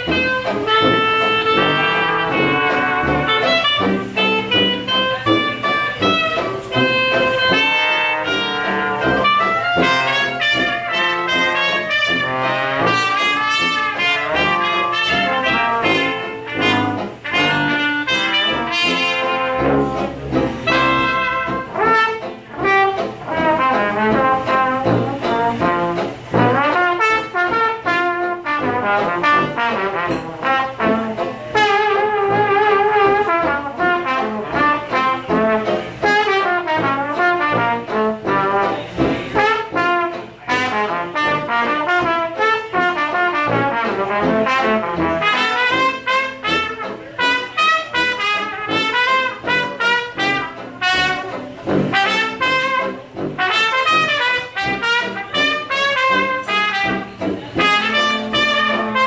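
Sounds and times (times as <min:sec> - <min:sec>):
banjo: 0:00.0 - 0:59.0
clarinet: 0:00.0 - 0:59.0
trombone: 0:00.0 - 0:59.0
trumpet: 0:00.0 - 0:59.0
tuba: 0:00.0 - 0:59.0.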